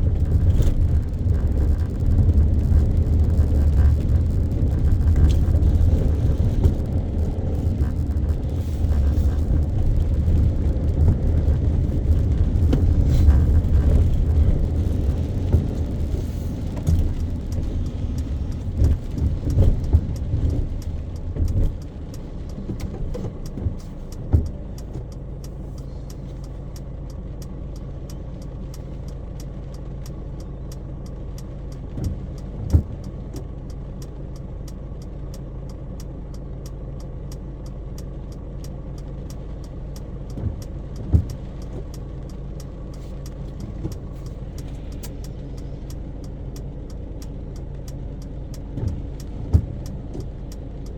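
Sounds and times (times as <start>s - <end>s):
car engine hum from inside: 0.0s - 50.9s
faint regular ticking: 0.0s - 50.9s.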